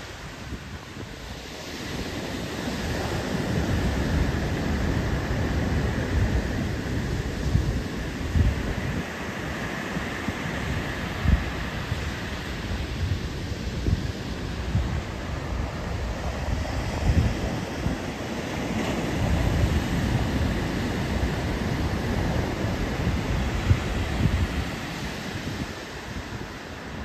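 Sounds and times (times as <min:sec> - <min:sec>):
small waves breaking on beach: 0:00.0 - 0:27.0
wind buffeting microphone: 0:00.0 - 0:27.0.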